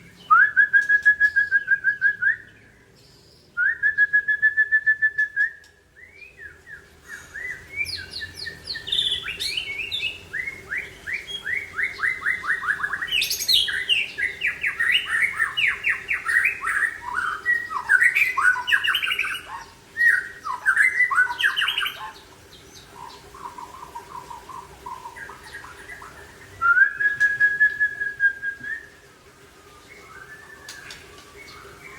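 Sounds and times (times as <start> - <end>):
faint steady hum: 0.0 - 31.9
songbird singing: 0.0 - 31.9.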